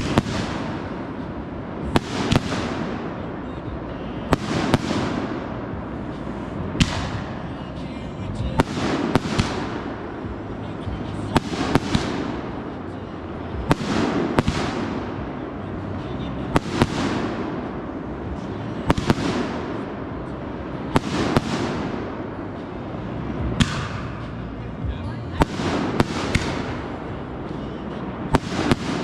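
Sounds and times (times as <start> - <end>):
fireworks hiss and crackle: 0.0 - 24.8
fireworks bangs: 0.0 - 29.0.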